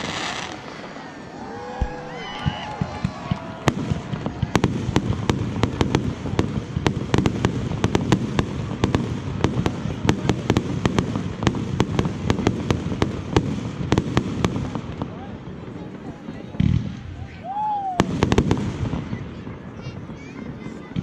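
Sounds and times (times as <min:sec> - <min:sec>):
fireworks cracking and banging: 0:00.0 - 0:21.0.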